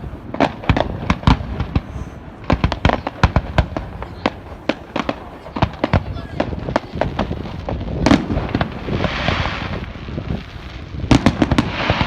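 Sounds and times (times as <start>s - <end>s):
steady low rumble: 0.0s - 11.7s
fireworks bangs and cracks: 0.0s - 12.0s.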